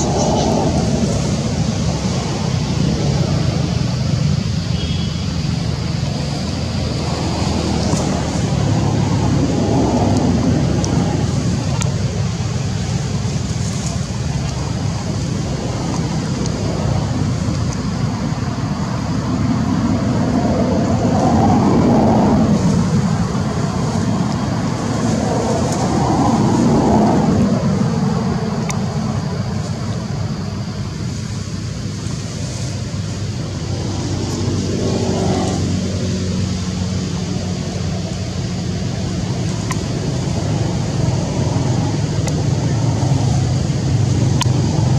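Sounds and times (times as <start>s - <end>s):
low rumble of road traffic: 0.0s - 44.9s
vehicles passing by: 0.0s - 44.9s.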